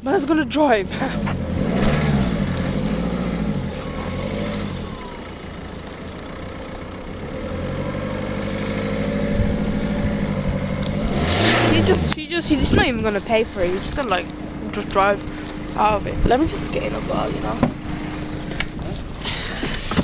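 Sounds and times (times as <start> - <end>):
car engine running at low revs: 0.0 - 20.0.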